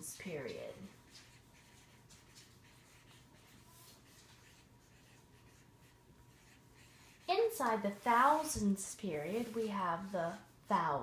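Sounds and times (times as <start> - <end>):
marker scratching on paper: 0.0 - 10.5.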